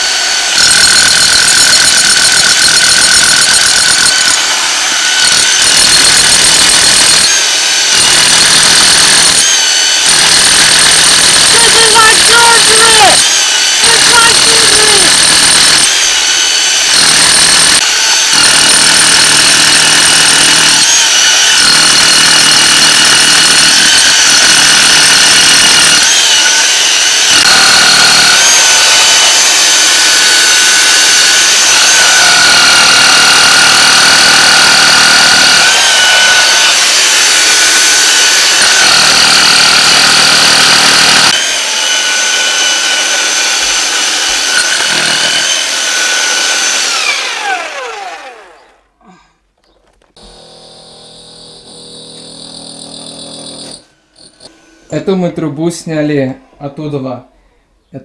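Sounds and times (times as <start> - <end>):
rotary hammer drill boring stone: 0.0 - 48.8, 50.2 - 54.6.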